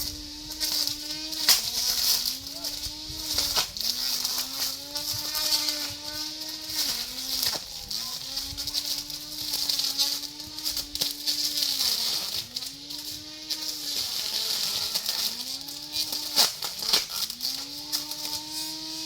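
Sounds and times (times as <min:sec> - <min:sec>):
brush cutter engine at high revs: 0:00.0 - 0:19.0.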